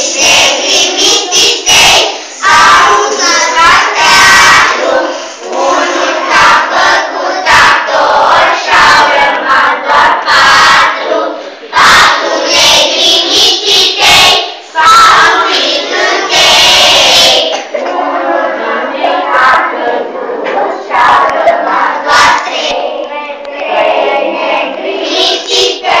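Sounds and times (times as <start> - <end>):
children chanting in unison: 0.0 - 26.0.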